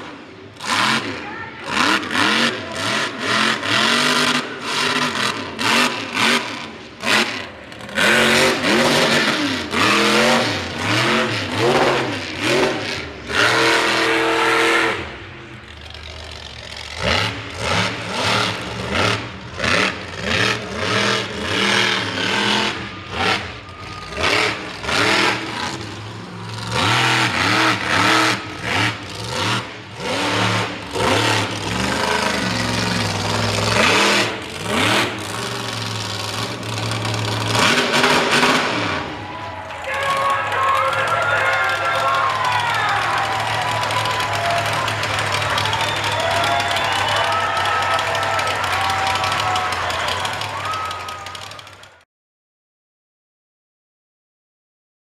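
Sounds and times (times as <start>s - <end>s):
truck engine revving: 0.0s - 52.0s.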